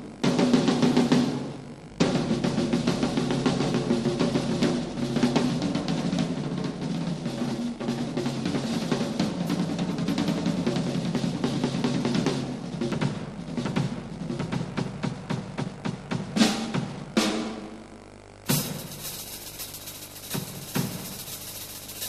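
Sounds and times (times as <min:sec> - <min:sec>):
snare and tom drum rolls: 0:00.0 - 0:17.9, 0:18.5 - 0:22.0.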